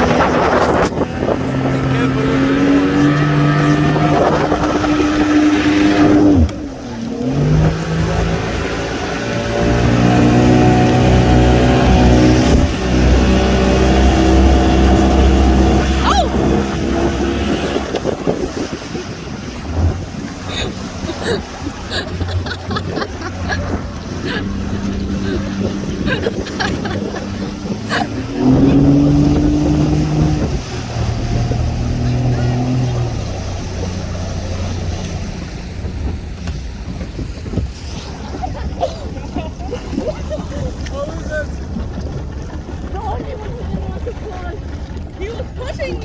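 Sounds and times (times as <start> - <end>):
rushing wind and water: 0.0 - 46.0
speedboat engine running: 0.0 - 46.0.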